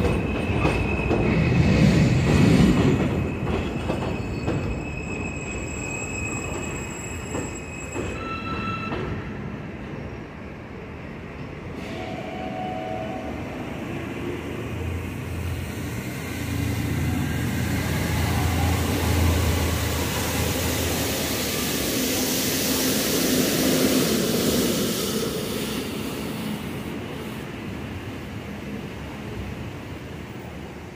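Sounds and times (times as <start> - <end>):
subway train rumbling: 0.0 - 30.9.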